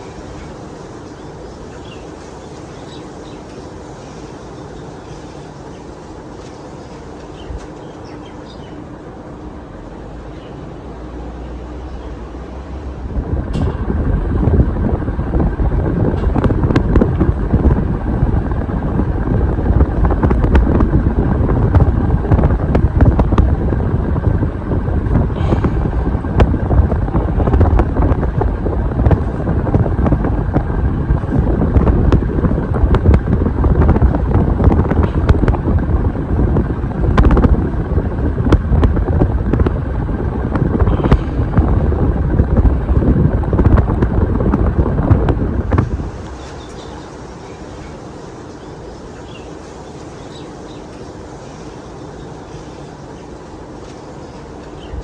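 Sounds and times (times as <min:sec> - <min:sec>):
ceiling fan wind rumble: 0:00.0 - 0:55.0.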